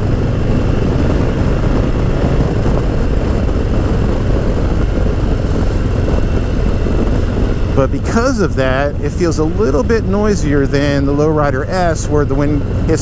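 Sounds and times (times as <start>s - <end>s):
motorcycle engine cruising: 0.0s - 13.0s
road noise: 0.0s - 13.0s
wind rushing: 0.0s - 13.0s.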